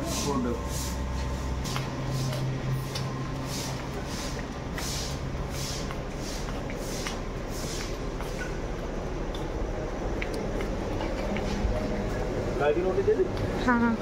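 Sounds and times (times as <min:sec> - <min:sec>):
footsteps scuffing on hard path: 0:00.0 - 0:12.4.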